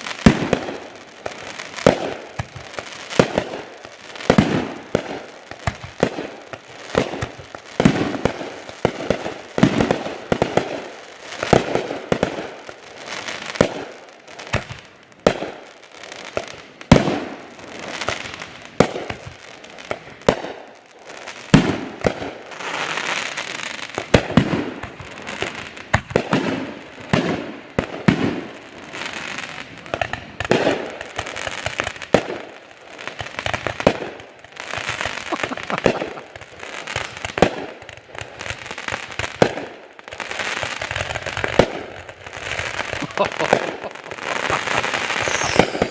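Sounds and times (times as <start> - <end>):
fireworks bangs echoing: 0.0 - 45.9
fireworks crackling: 0.0 - 45.9.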